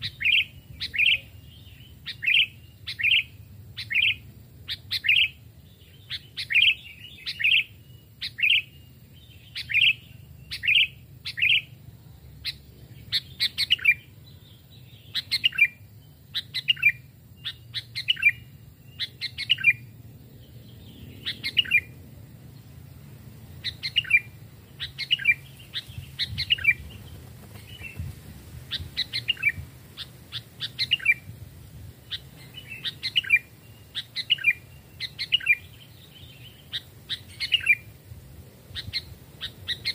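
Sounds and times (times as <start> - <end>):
bird chirping calls: 0.0 - 38.0, 38.7 - 39.9.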